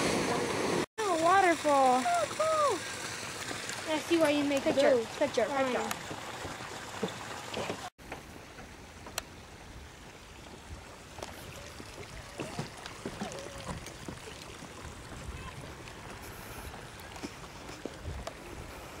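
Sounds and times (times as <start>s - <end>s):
water churning and sloshing: 0.0s - 19.0s.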